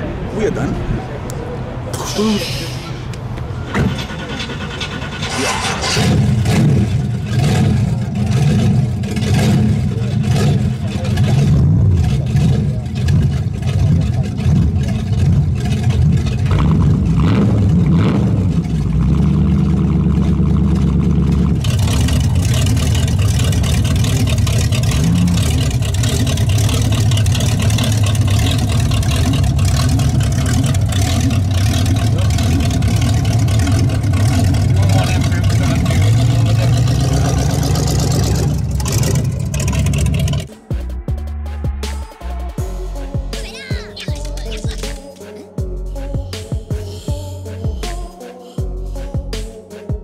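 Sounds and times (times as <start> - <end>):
car engines revving: 0.0 - 40.6.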